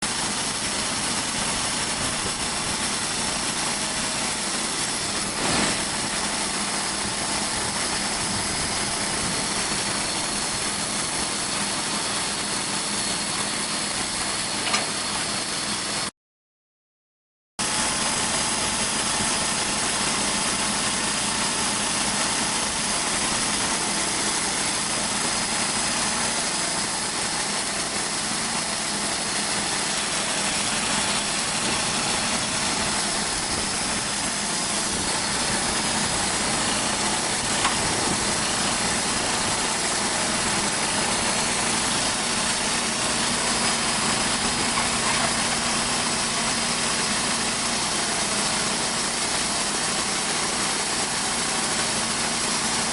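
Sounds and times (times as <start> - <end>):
sawmill engine running: 0.0 - 16.1, 17.6 - 52.9.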